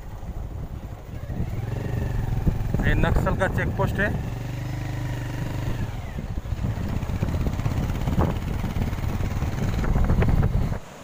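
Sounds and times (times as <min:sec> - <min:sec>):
wind rumble on microphone: 0:00.0 - 0:11.0
motorcycle engine running: 0:00.6 - 0:10.8.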